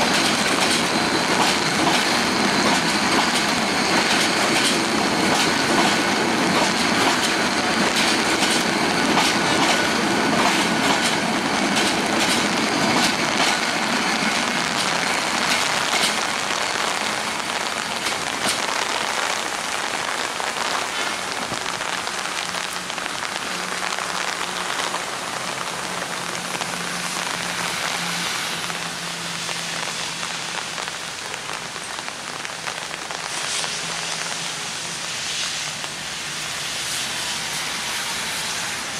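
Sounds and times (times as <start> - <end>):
train wheels rattling on rails: 0.0 - 38.9.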